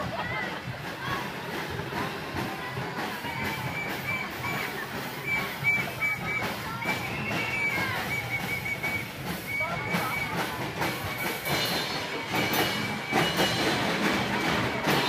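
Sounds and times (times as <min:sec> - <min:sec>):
marching drums and xylophones: 0:00.0 - 0:15.0.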